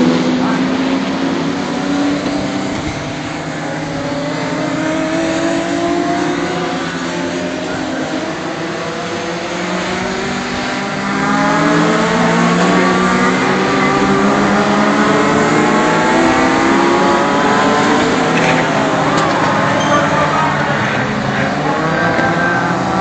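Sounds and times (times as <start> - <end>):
racing car engines: 0.0 - 23.0.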